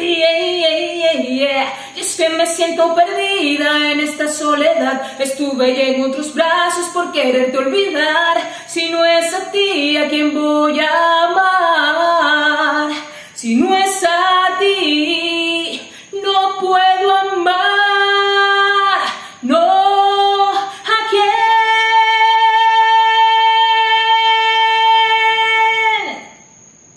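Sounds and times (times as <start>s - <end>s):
woman singing a ballad: 0.0s - 26.4s.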